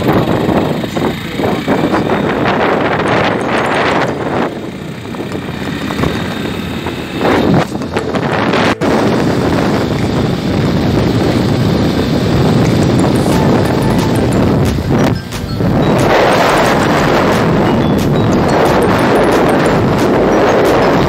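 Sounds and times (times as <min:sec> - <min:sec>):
motorcycle engine: 0:00.0 - 0:21.0
wind rushing over microphone: 0:00.0 - 0:21.0.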